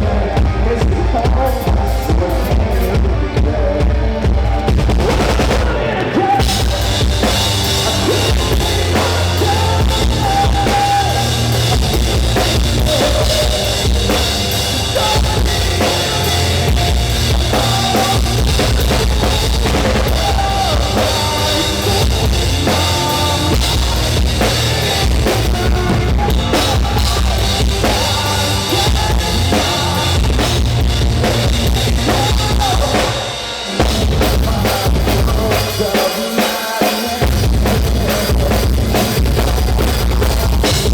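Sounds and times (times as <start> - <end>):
drum kit: 0.0 - 40.9
loud band music: 0.0 - 40.9.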